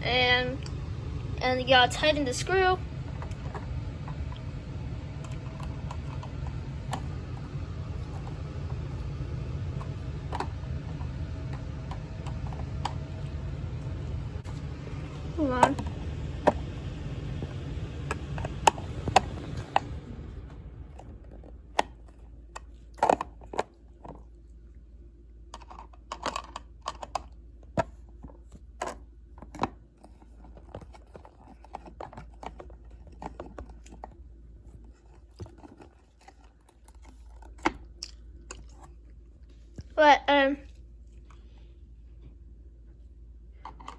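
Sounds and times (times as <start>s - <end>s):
low hum: 0.0s - 43.9s.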